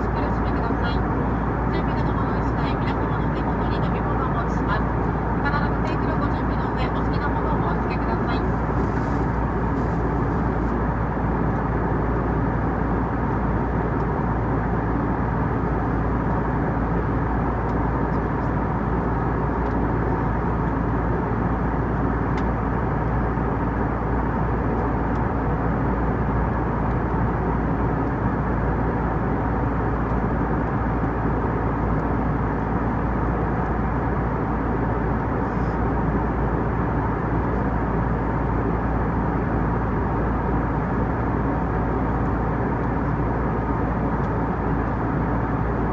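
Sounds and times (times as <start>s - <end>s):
aircraft cabin drone: 0.0s - 45.9s.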